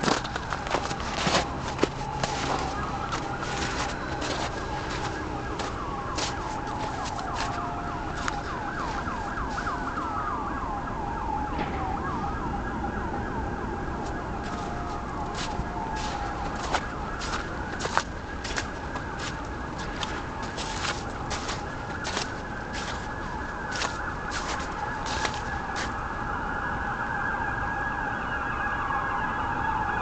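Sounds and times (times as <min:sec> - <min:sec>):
emergency vehicle siren: 0:00.0 - 0:30.0.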